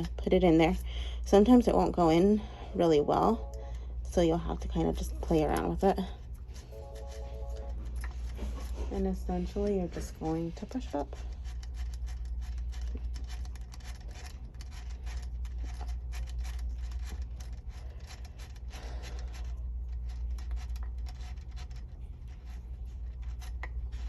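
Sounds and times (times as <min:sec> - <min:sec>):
low hum: 0:00.0 - 0:24.0
cable scratching and clicking: 0:04.5 - 0:24.0.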